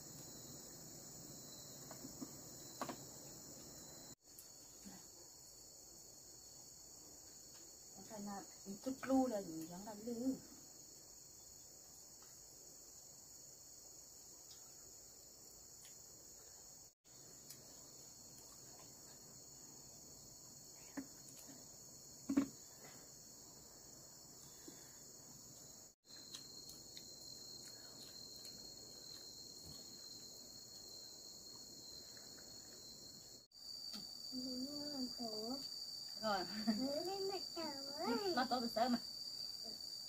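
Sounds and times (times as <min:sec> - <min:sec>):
crickets and insects trilling: 0:00.0 - 0:40.0.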